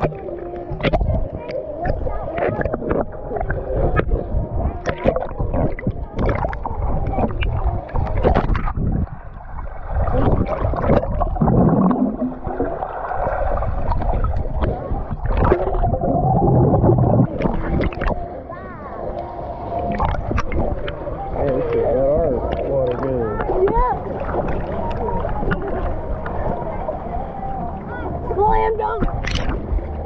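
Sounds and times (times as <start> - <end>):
low hum: 0.0 - 30.0
muffled underwater bubbling: 0.0 - 30.0.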